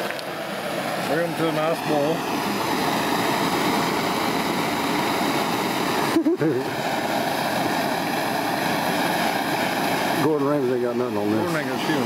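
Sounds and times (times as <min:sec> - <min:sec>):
propane torch flame hissing: 0:00.0 - 0:12.0.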